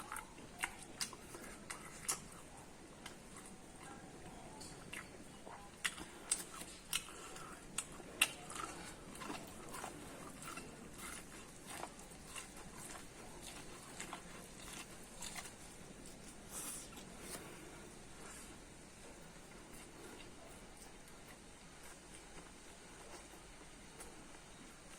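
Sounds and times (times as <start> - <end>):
person chewing corn crunchily: 0.0 - 24.9.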